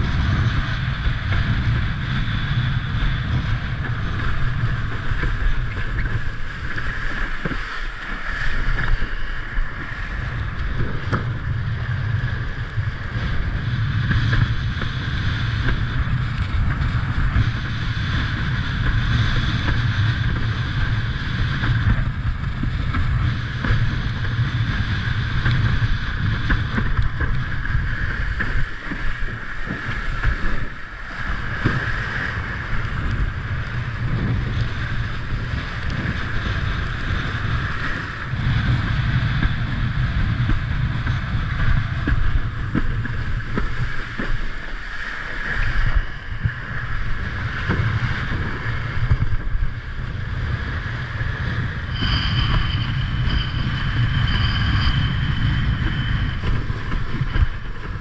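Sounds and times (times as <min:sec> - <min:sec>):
water rushing under a board: 0:00.0 - 0:58.0
wind buffeting microphone: 0:00.0 - 0:58.0.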